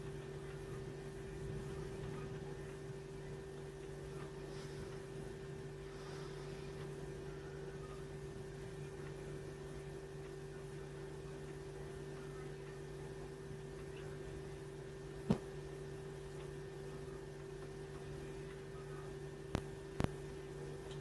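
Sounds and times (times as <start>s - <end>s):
steady low hum with hiss: 0.0s - 21.0s.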